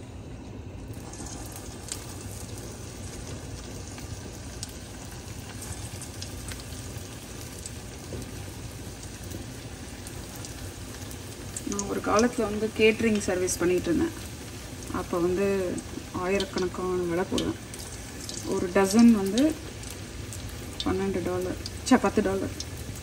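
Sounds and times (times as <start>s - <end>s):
deep-frying sizzle with pops: 0.0s - 23.0s.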